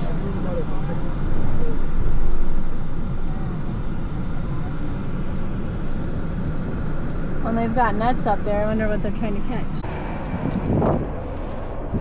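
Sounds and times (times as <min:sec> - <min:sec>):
road and engine rumble inside van: 0:00.0 - 0:12.0.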